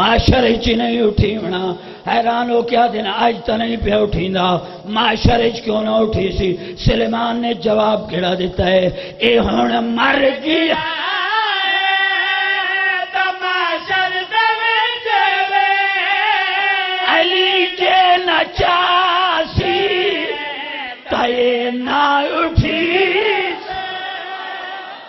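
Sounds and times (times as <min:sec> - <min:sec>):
man chanting into a microphone: 0:00.0 - 0:24.9.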